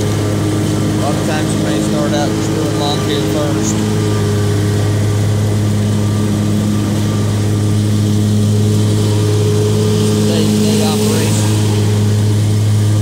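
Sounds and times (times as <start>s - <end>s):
mower engine droning: 0.0s - 13.0s.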